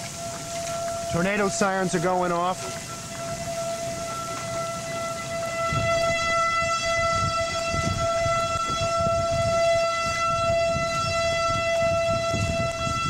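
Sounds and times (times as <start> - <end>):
tornado siren steady tone: 0.0 - 13.0.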